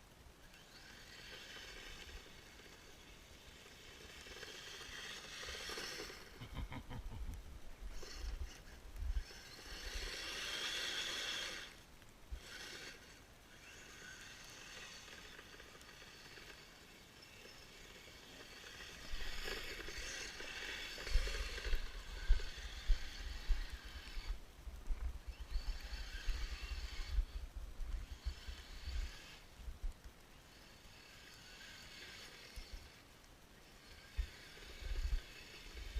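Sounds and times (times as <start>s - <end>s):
electric motor whining: 0.4s - 29.6s, 30.3s - 35.9s.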